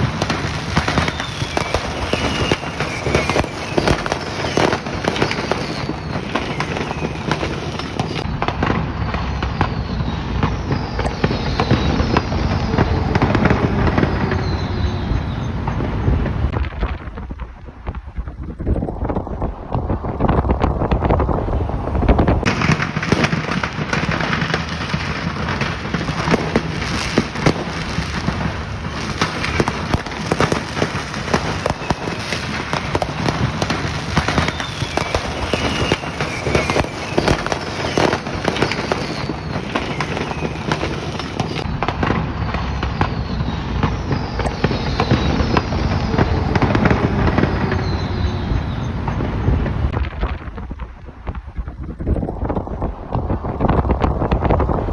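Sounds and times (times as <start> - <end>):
fireworks crackling and popping: 0.0 - 54.9
whistling fireworks: 0.0 - 54.9.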